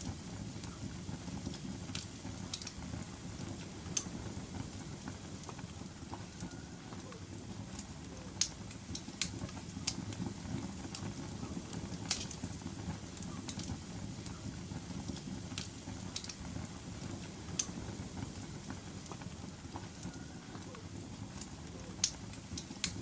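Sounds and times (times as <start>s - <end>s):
fire crackling and popping: 0.0s - 23.0s
fire flames rushing: 0.0s - 23.0s.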